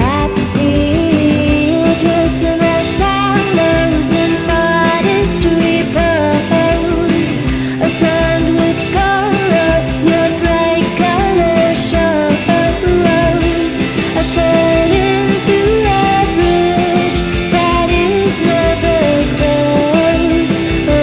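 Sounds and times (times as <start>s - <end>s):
guitar: 0.0s - 21.0s
person singing: 0.0s - 21.0s
steady drum beat: 0.0s - 21.0s.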